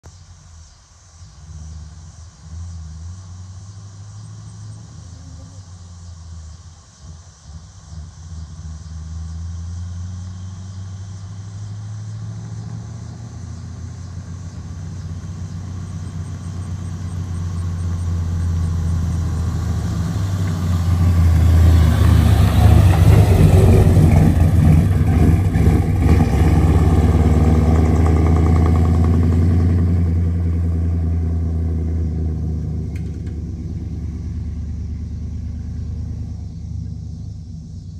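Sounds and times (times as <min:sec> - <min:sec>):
pickup truck engine driving by: 0:01.2 - 0:37.9.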